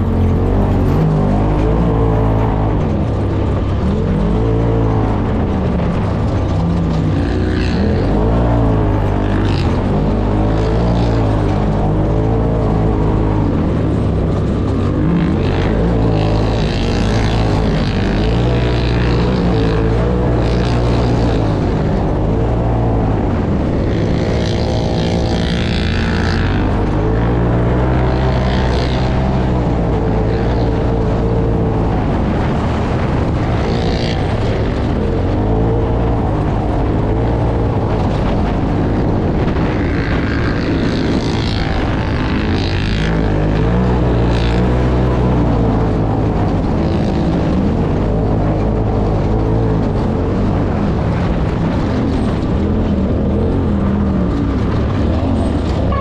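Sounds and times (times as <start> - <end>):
utv engine revving: 0.0 - 56.0.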